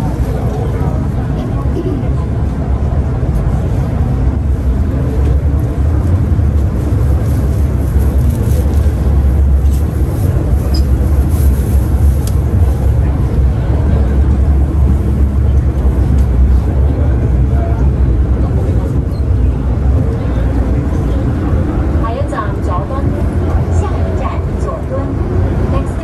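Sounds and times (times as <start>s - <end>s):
train wheels and motors rumbling: 0.0s - 26.0s.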